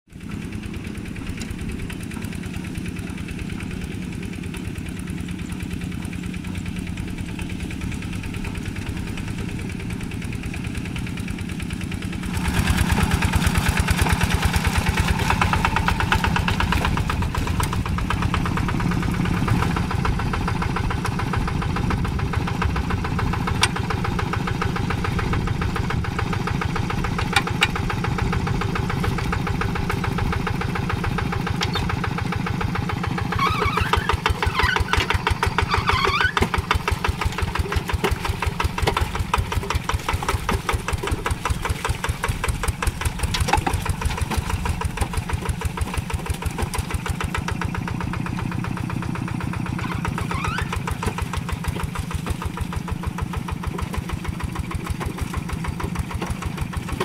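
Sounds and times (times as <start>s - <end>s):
diesel tractor engine chugging: 0.1s - 57.0s.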